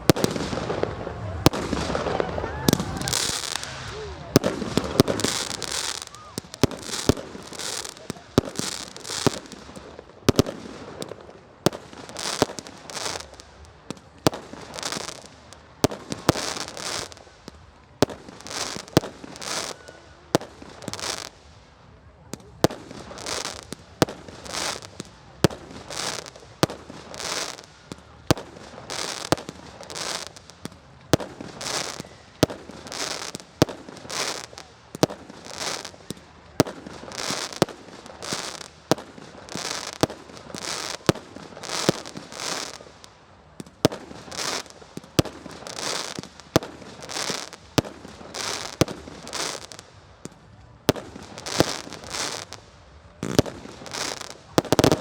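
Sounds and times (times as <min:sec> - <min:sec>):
firework bangs with hiss: 0:00.0 - 0:55.0.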